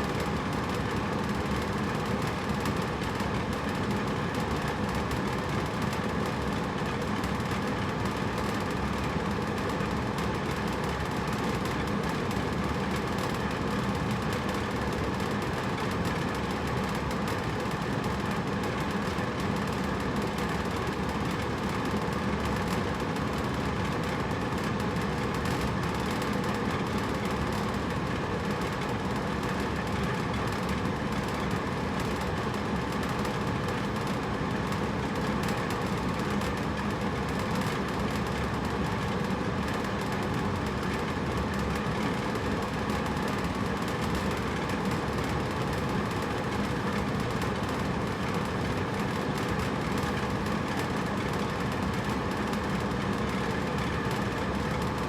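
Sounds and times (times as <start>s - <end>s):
air conditioner humming: 0.0s - 55.0s.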